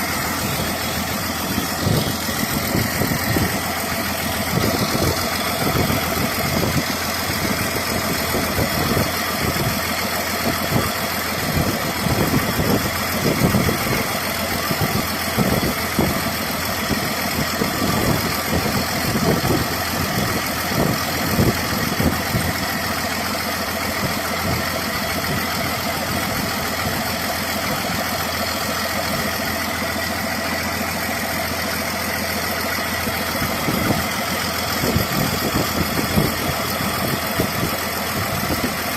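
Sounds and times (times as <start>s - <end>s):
heavy diesel engine idling: 0.0s - 38.9s.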